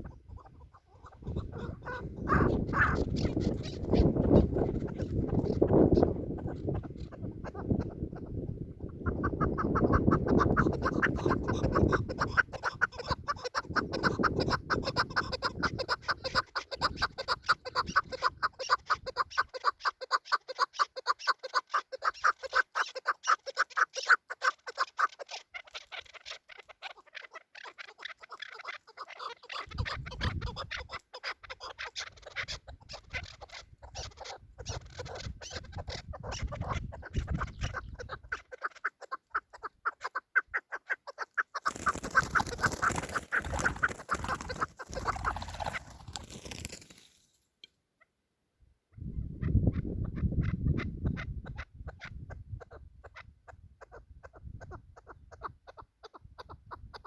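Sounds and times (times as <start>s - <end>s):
partridge clucking calls: 0.0s - 47.0s, 48.9s - 57.0s.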